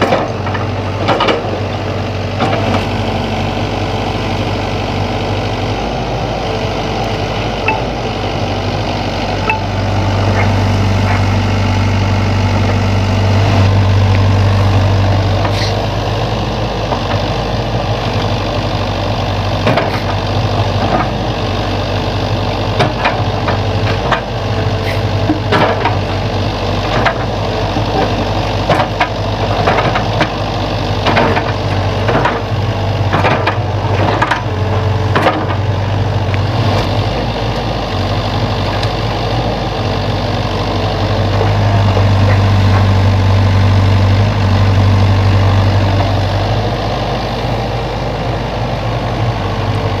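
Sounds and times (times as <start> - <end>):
excavator diesel engine: 0.0 - 50.0.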